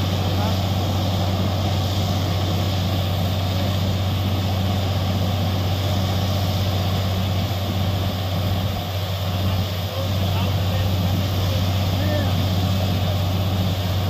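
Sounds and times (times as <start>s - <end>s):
deep engine drone: 0.0s - 14.0s.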